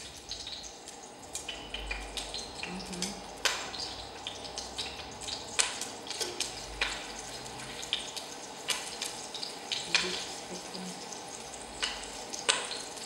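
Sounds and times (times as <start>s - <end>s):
beef sizzling in oil: 0.0s - 13.0s.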